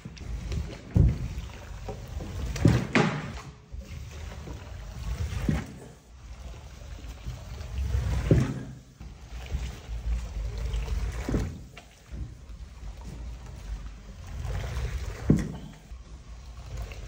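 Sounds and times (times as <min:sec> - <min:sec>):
water splashing on wet rug: 0:00.0 - 0:17.0.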